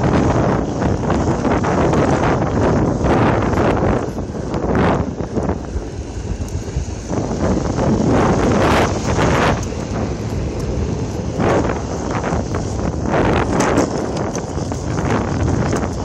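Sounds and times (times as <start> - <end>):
wheels rolling on rough asphalt: 0.0 - 16.0
wind buffeting microphone: 0.0 - 16.0.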